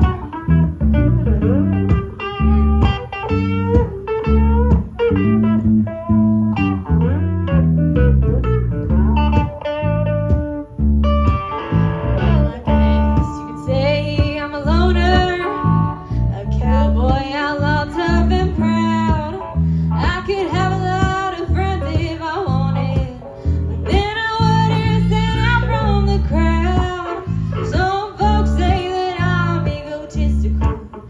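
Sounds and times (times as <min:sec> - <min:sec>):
guitar lead melody: 0:00.0 - 0:31.0
live country band playing: 0:00.0 - 0:31.0.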